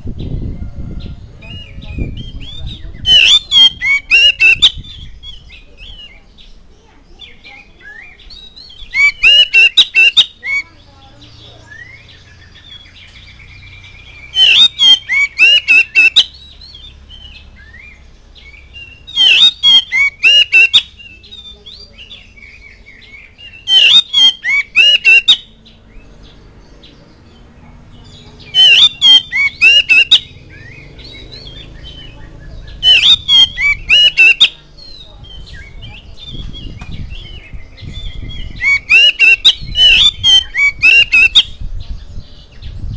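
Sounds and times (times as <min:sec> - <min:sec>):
bird singing whistled notes: 0:00.2 - 0:06.5, 0:07.1 - 0:26.4, 0:28.0 - 0:42.9.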